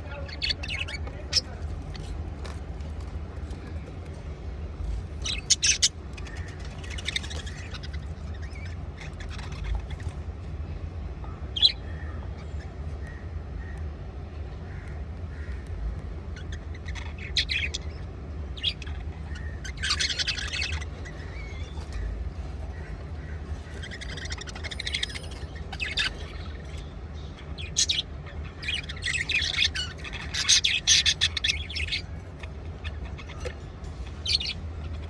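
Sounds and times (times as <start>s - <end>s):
budgerigars chattering: 0.0s - 4.1s, 4.9s - 10.4s, 11.5s - 13.8s, 14.7s - 35.0s
steady low hum: 0.0s - 35.0s.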